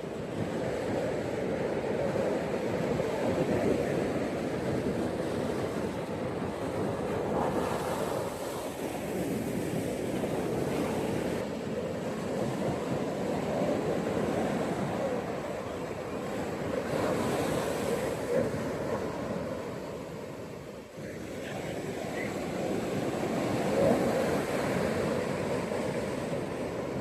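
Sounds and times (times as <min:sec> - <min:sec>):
ocean waves washing on beach: 0:00.0 - 0:27.0.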